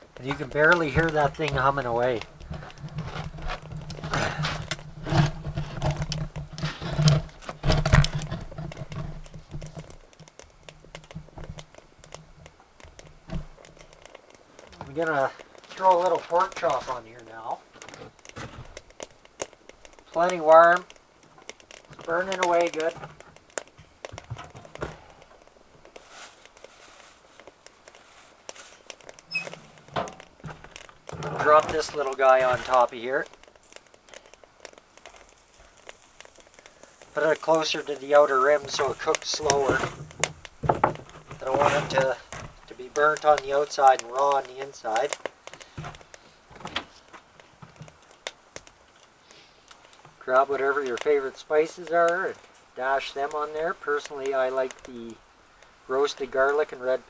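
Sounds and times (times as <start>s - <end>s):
wood crackling and snapping: 0.0s - 57.0s
small clicks: 5.6s - 57.0s.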